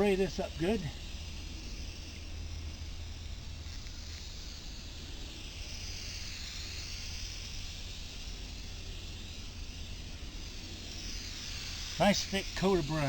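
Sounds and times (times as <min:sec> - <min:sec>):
spray paint can hissing: 0:00.0 - 0:13.0.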